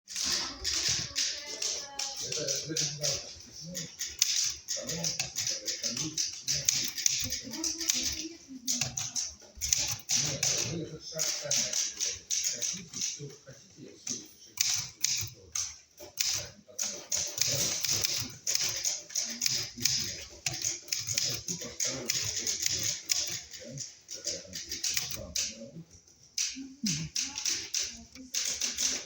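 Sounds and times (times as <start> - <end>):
typewriter keys clacking: 0.1 - 13.2, 14.6 - 25.6, 26.4 - 29.0.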